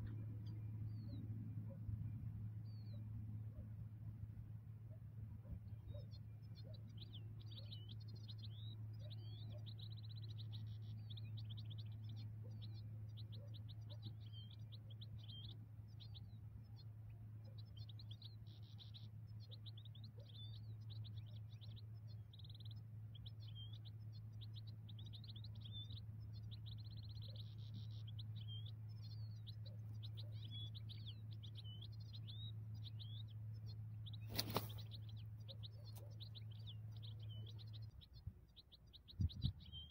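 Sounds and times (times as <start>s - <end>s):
goldfinch twittering song: 0.0s - 3.8s, 4.9s - 39.9s
low hum: 0.0s - 39.9s.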